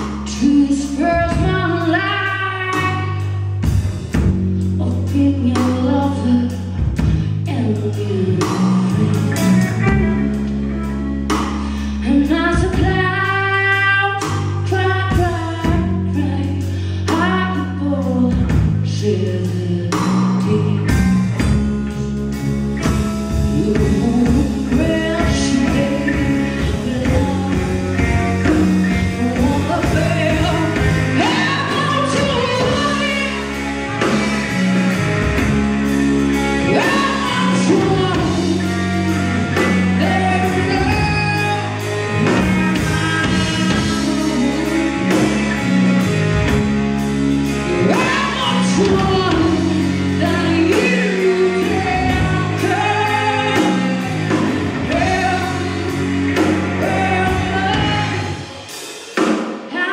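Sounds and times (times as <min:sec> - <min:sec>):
woman singing: 0:00.0 - 0:03.8, 0:04.6 - 0:10.5, 0:11.4 - 0:22.1, 0:23.3 - 0:34.6, 0:36.3 - 0:46.6, 0:47.4 - 0:59.0, 0:59.6 - 0:59.9
bass guitar: 0:00.0 - 0:59.9
drum kit: 0:00.0 - 0:59.9
electric guitar: 0:00.0 - 0:59.9.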